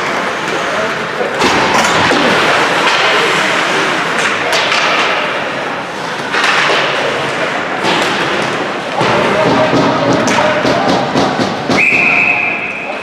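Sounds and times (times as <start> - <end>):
ice hockey game noise: 0.0 - 13.0.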